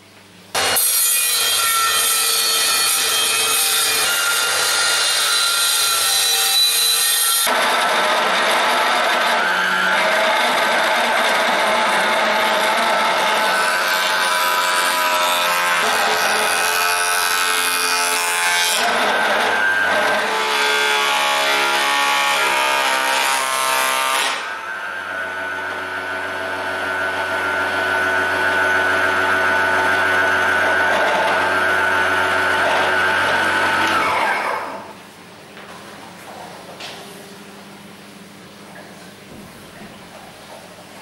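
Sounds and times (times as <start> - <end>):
thickness planer cutting wood: 0.6 - 34.9.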